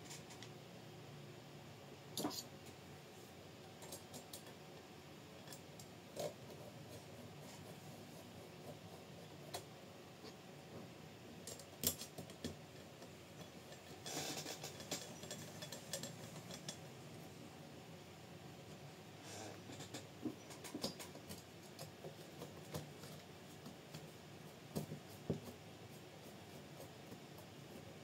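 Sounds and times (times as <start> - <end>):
faint room hiss: 0.0 - 28.0.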